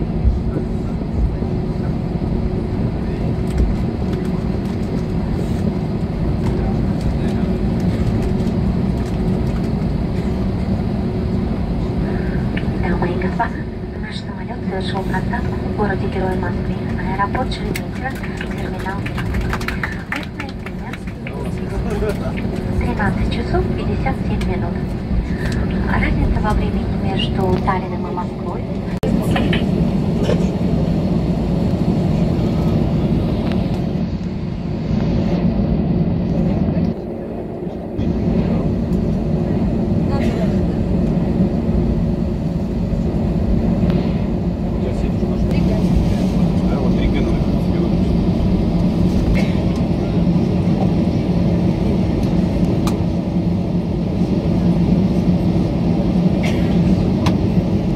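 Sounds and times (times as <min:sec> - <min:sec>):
low cabin drone: 0:00.0 - 0:57.9
low rumble of engines and wheels: 0:00.0 - 0:57.9.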